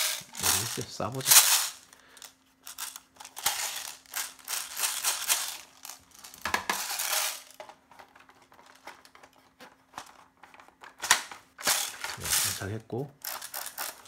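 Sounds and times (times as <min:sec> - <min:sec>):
pellets rattling in plastic magazine: 0:00.0 - 0:09.1, 0:11.0 - 0:14.0.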